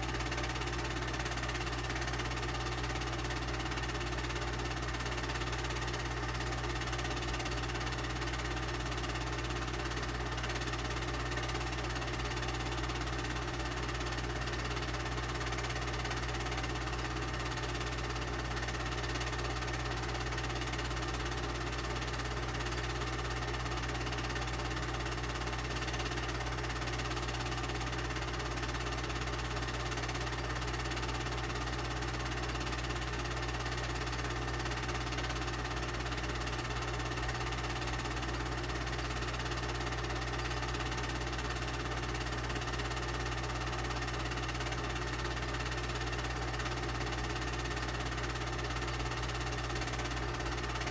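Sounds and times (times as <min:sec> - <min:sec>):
film projector running: 0:00.0 - 0:50.9.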